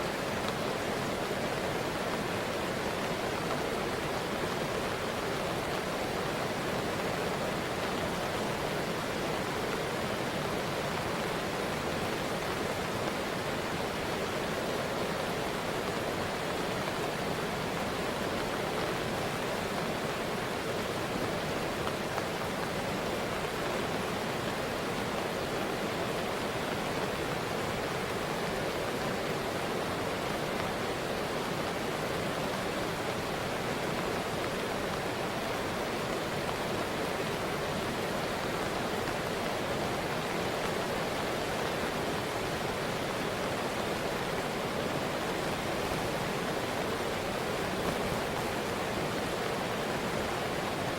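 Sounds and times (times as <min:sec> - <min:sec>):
fast-flowing river water: 0:00.0 - 0:50.9.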